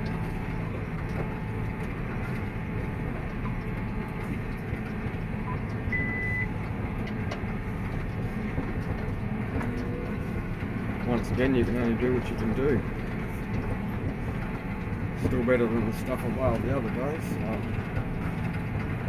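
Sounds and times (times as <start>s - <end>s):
baler machinery clatter: 0.0s - 19.0s
tractor engine hum: 0.0s - 19.0s.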